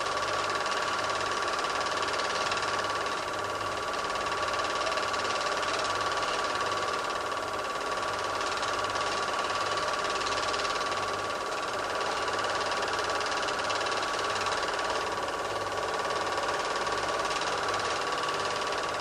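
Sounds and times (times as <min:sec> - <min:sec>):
film projector whirring: 0:00.0 - 0:19.0.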